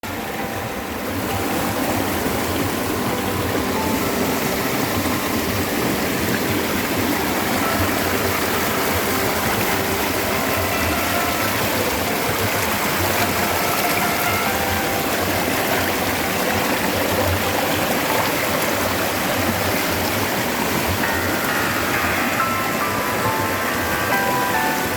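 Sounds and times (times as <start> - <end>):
stream water rushing over rocks: 0.0 - 24.9.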